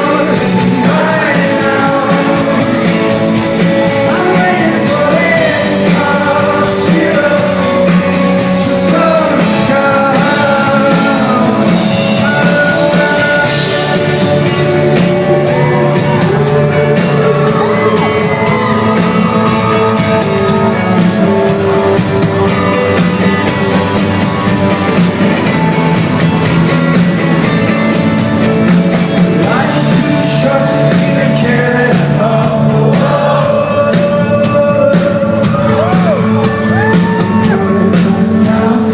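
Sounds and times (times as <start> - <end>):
singer's lead vocal: 0.0 - 26.0, 27.4 - 38.9
live band playing: 0.0 - 38.9.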